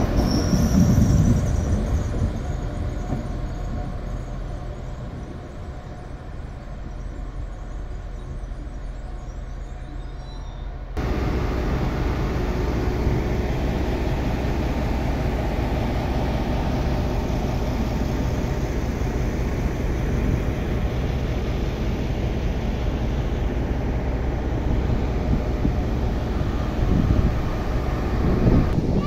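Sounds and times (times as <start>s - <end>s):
diesel rail engine idling: 0.0s - 29.0s.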